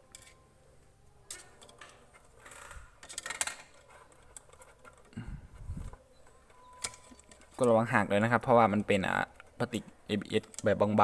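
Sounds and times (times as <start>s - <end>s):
plastic parts clicking and rattling: 1.2s - 11.0s.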